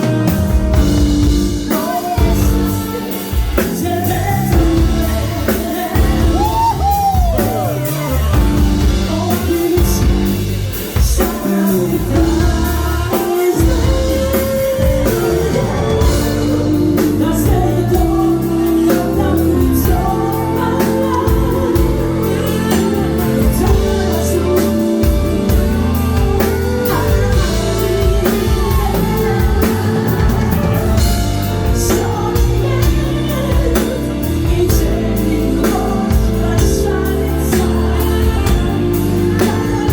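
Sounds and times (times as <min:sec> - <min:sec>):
drums: 0:00.0 - 0:39.9
guitar: 0:00.0 - 0:39.9
woman singing: 0:00.0 - 0:39.9.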